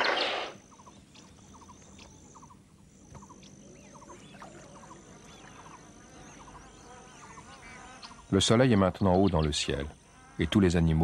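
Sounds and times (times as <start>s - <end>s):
bird calls: 0.0s - 10.7s
high insect trill: 0.0s - 11.0s.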